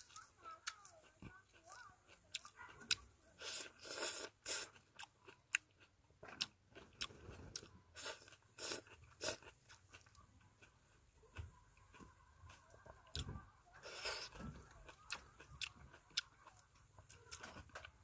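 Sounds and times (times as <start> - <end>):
person biting and chewing fruit: 0.2 - 11.0, 13.9 - 18.0.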